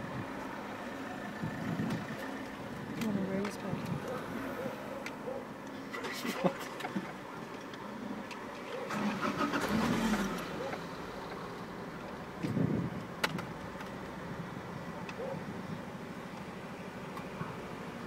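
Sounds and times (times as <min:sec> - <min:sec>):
cars idling: 0:00.0 - 0:18.0.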